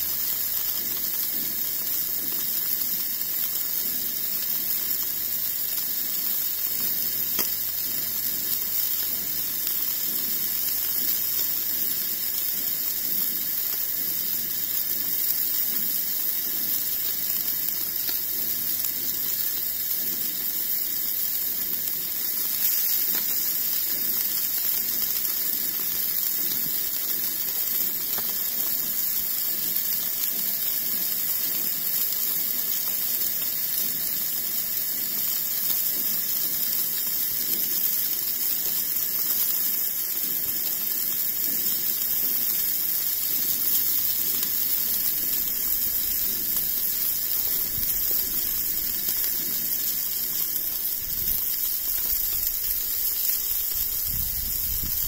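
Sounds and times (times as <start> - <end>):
camp stove burner hissing: 0.0 - 55.0
patty sizzling in frying pan: 0.0 - 55.0.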